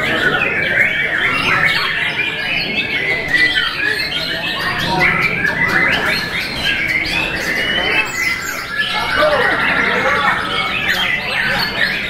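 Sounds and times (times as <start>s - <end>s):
many birds singing whistles: 0.0s - 12.0s.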